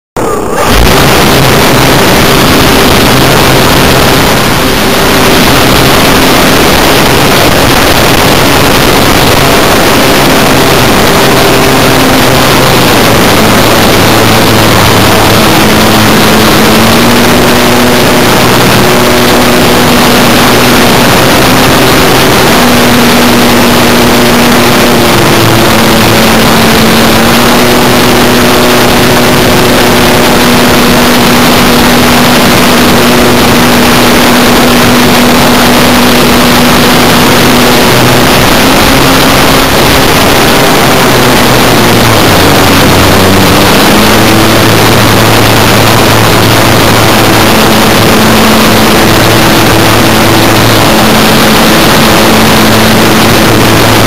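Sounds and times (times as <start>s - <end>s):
electric motor and propeller: 0.2s - 54.0s
heavy wind rush: 0.2s - 54.0s.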